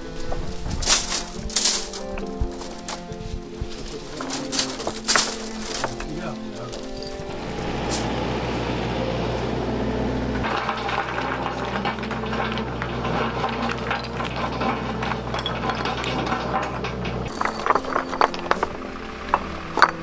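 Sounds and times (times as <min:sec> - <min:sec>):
stones clattering: 0:00.0 - 0:08.2, 0:10.4 - 0:20.0
excavator engine humming: 0:00.0 - 0:20.0.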